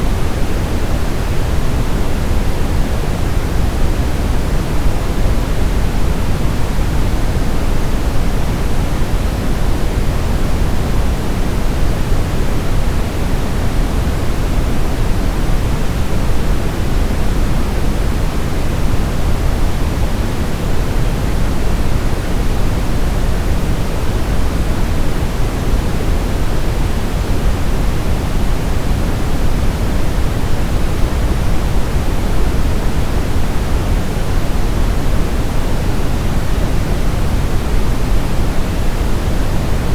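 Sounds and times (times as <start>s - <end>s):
deep constant hiss: 0.0s - 39.9s.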